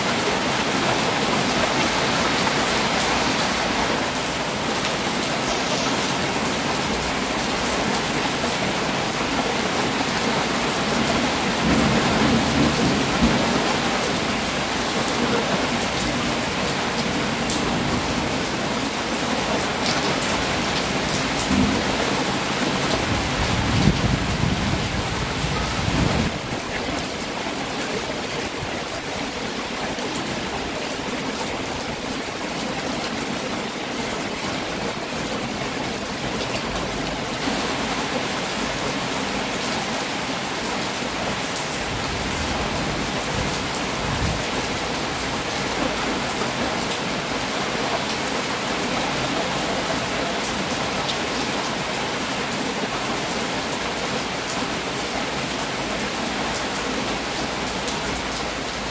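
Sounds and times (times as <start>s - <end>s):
heavy rain: 0.0s - 58.9s.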